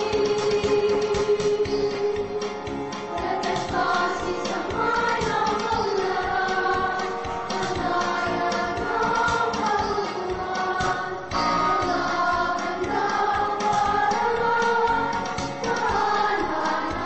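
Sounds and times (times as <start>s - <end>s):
instrumental accompaniment: 0.0s - 17.0s
voices singing a march: 0.0s - 17.0s.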